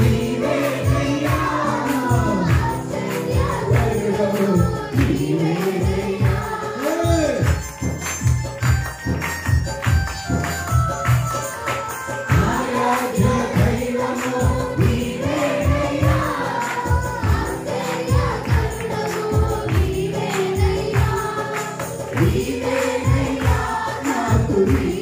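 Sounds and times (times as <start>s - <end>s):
group singing: 0.0s - 7.5s, 12.3s - 25.0s
steady drum beat: 0.0s - 25.0s
tambourine: 0.0s - 25.0s.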